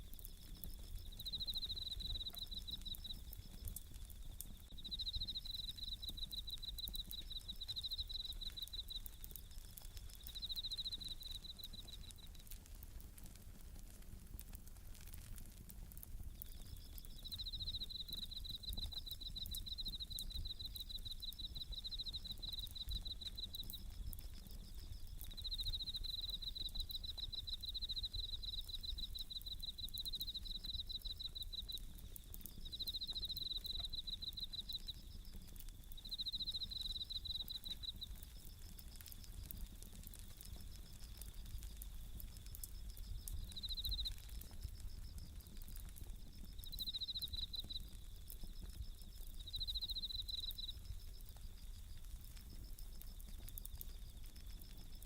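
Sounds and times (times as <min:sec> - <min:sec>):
crickets chirping: 0:00.0 - 0:12.6, 0:16.3 - 0:55.0
campfire crackling: 0:00.0 - 0:55.0.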